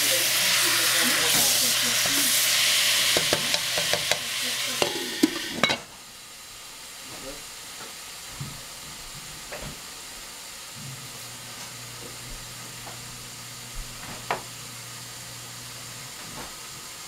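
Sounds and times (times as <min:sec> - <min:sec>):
sizzling hiss in covered pot: 0:00.0 - 0:17.0.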